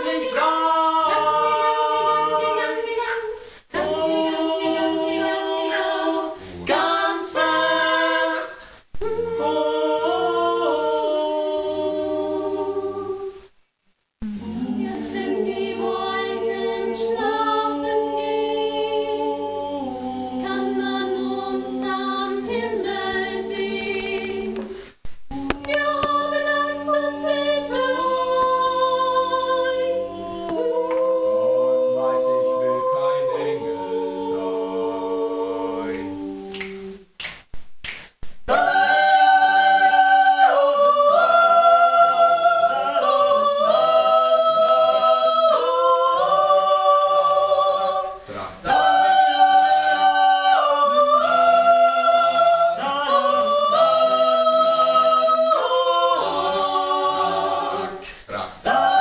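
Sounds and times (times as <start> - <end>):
a cappella choir singing: 0.0 - 13.6, 14.2 - 59.0.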